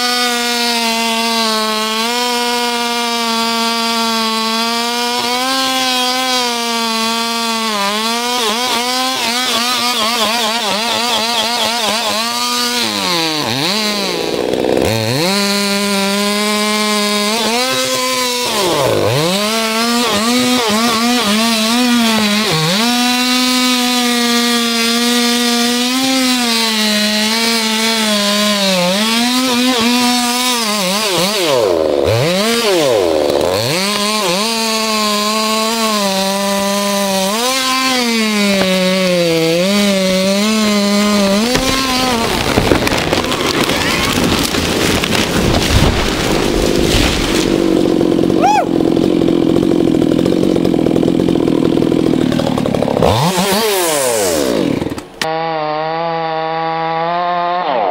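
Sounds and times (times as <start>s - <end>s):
chainsaw cutting tree: 0.0s - 57.9s.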